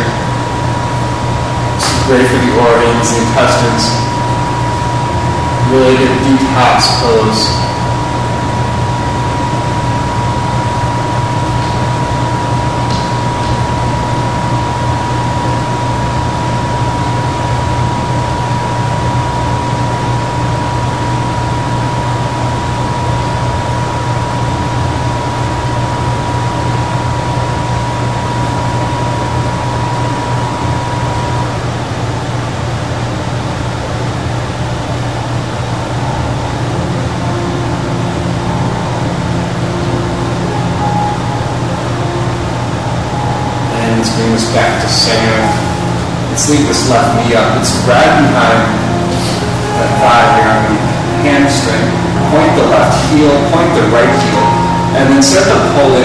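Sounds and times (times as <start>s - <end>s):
low hum: 0.0s - 56.0s
thin steady whine: 0.0s - 56.0s.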